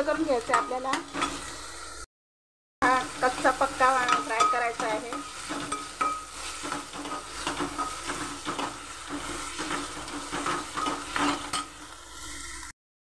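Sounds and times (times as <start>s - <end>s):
spoon scraping metal pan: 0.0s - 1.6s, 2.8s - 12.7s
vegetables sizzling in oil: 0.0s - 2.0s, 2.8s - 12.7s.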